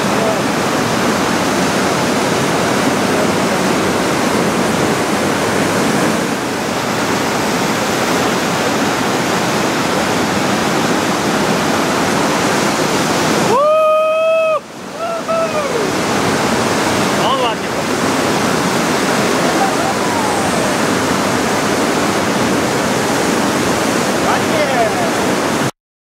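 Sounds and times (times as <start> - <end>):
whitewater rushing: 0.0 - 25.7.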